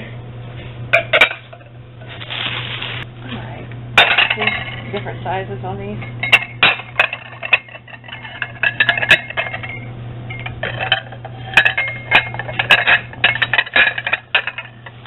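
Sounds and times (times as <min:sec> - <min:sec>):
glass tumblers clinking: 0:00.9 - 0:03.0, 0:04.0 - 0:05.1, 0:05.9 - 0:15.0.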